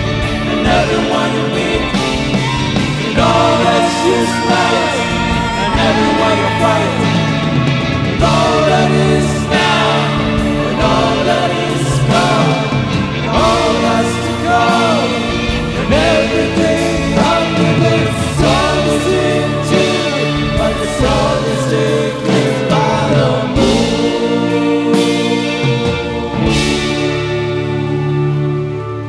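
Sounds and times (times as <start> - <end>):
rock band playing chords: 0.0 - 29.0
singers wailing wordless vocals: 0.0 - 29.0.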